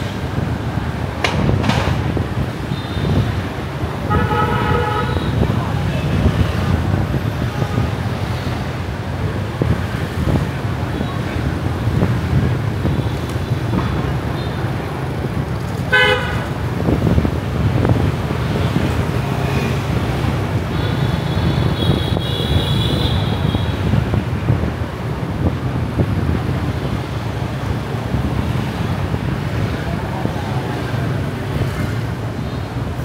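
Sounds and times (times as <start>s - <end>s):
car road noise rumble: 0.0s - 33.0s.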